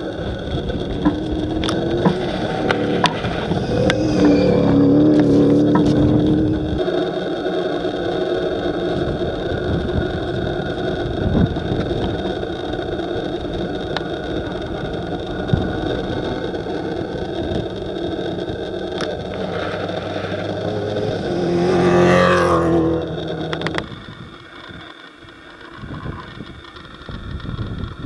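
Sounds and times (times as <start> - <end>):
distant truck engine running: 0.0 - 28.0
steady rushing noise: 0.0 - 28.0.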